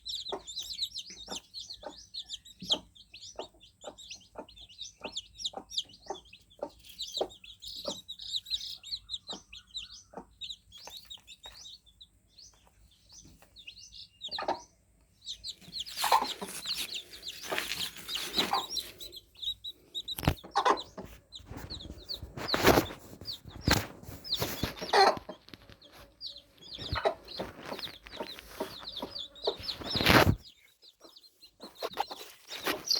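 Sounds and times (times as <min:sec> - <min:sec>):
chicks cheeping: 0:00.0 - 0:32.9.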